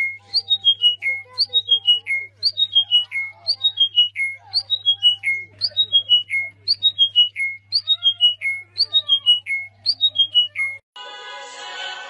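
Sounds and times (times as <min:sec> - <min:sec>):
caged bird singing: 0:00.0 - 0:10.8.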